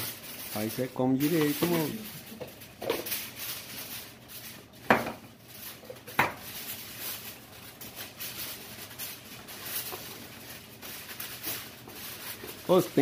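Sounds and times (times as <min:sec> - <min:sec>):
serving utensils clinking and scraping: 0:00.0 - 0:13.0.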